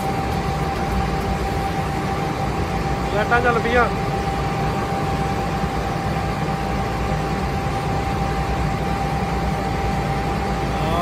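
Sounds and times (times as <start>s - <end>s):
ferry engine rumbling: 0.0s - 11.0s
thin engine whine: 0.0s - 11.0s.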